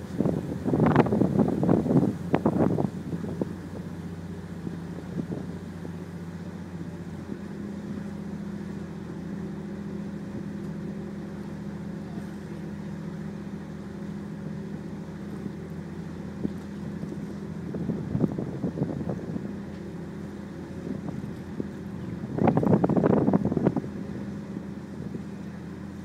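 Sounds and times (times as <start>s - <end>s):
ferry diesel engine drone: 0.0s - 26.0s
wind and water hiss: 0.0s - 26.0s.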